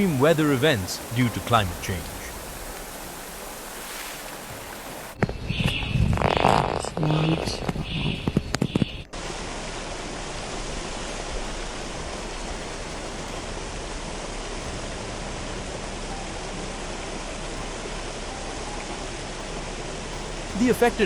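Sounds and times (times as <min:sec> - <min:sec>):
rushing floodwater: 0:00.0 - 0:05.2, 0:09.1 - 0:21.0.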